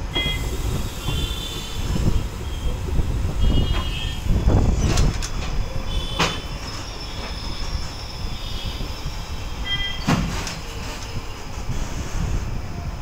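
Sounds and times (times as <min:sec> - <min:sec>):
train coach rumbling on rails: 0:00.0 - 0:13.0.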